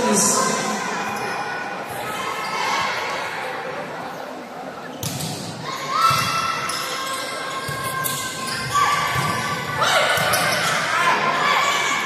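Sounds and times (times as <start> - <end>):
spectator chatter: 0.0 - 12.0.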